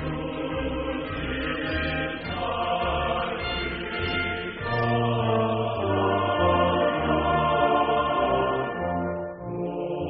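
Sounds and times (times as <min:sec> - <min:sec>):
choir singing chords: 0:00.0 - 0:10.0.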